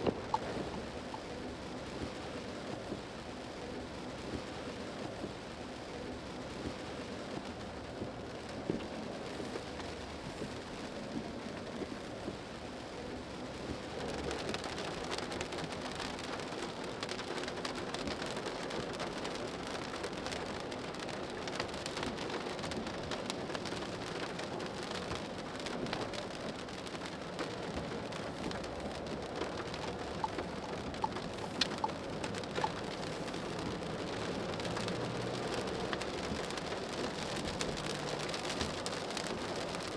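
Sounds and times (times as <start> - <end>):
rain pattering on car: 0.0 - 39.9.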